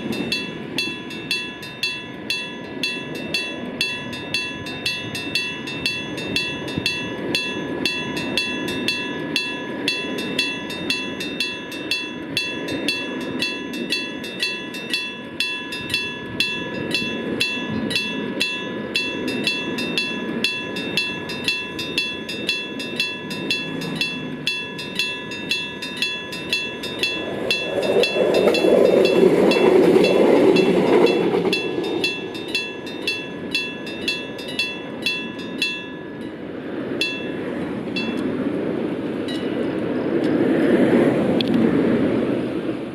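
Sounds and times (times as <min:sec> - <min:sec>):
level-crossing bell ringing: 0:00.0 - 0:38.3
rail vehicle rumbling past: 0:00.0 - 0:42.9.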